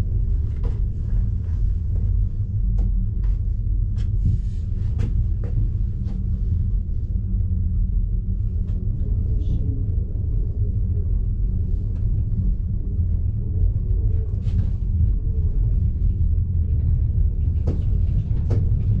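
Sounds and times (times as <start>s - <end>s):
cable car cabin rumble: 0.0s - 19.0s.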